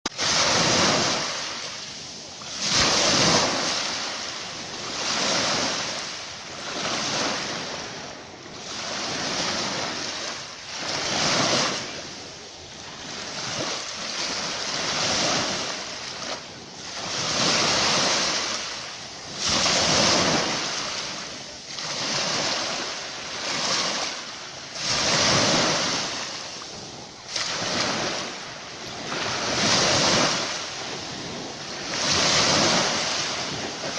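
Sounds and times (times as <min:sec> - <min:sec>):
ocean surf washing onto beach: 0:00.1 - 0:33.9.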